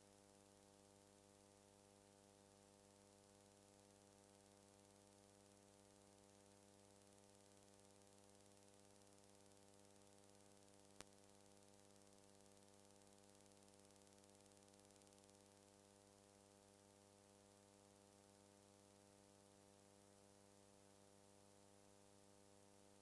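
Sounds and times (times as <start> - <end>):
faint electrical hum with hiss: 0.0 - 23.0.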